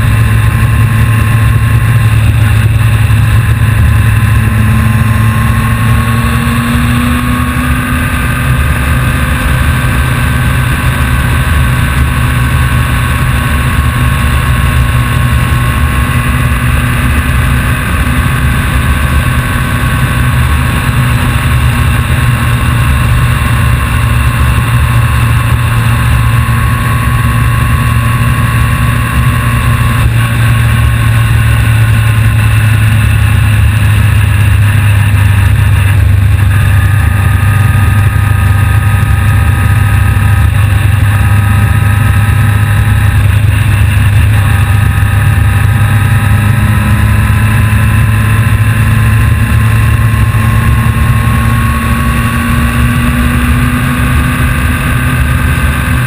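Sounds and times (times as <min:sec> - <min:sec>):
high whine shifting pitch: 0:00.0 - 0:56.0
road noise: 0:00.0 - 0:56.0
vehicle engine running: 0:00.0 - 0:56.0.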